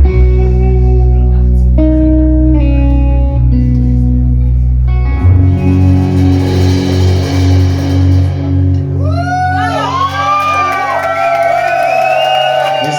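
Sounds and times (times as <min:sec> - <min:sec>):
live rock band playing: 0:00.0 - 0:11.0
electric guitar sustained notes: 0:00.0 - 0:12.9.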